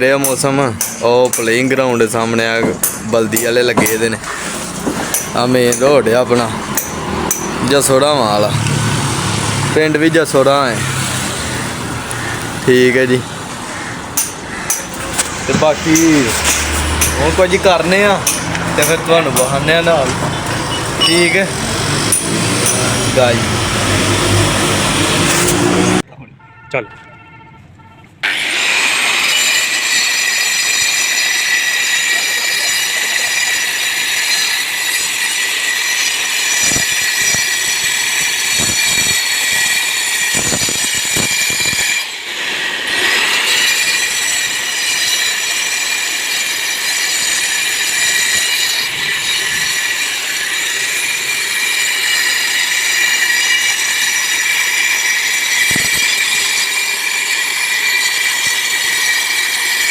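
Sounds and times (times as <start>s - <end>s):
angle grinder cutting: 0.0s - 26.0s, 28.2s - 59.9s.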